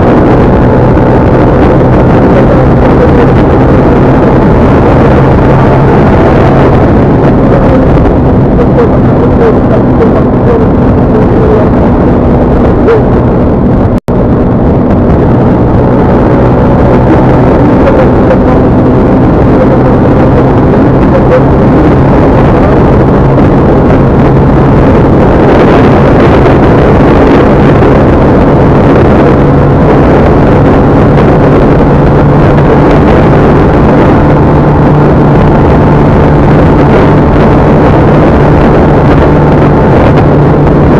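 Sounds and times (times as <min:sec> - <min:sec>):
road and wind noise: 0:00.0 - 0:40.9
vehicle engine drone: 0:00.0 - 0:40.9.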